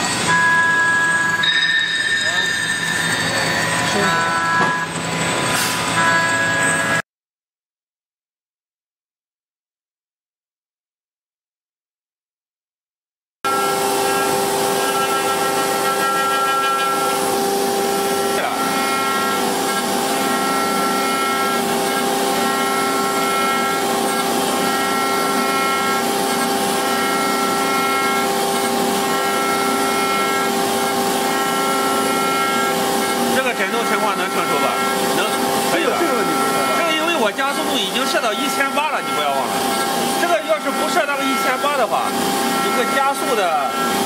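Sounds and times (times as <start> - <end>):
router spindle whining while carving wood: 0.0 - 5.5, 13.5 - 44.0.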